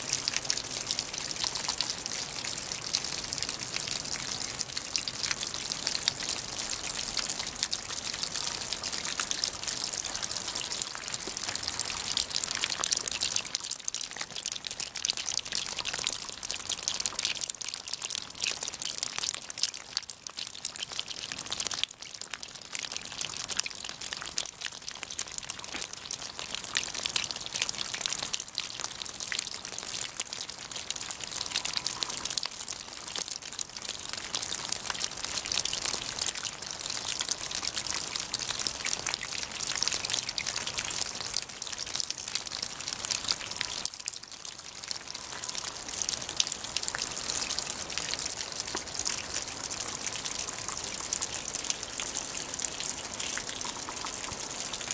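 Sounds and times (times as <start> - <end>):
water dripping onto wet stones: 0.1 - 54.9.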